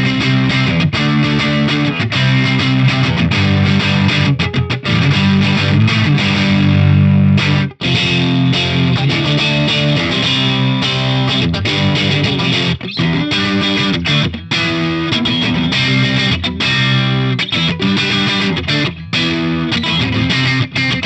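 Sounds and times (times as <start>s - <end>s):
electric guitar chords and riffs: 0.0s - 21.0s.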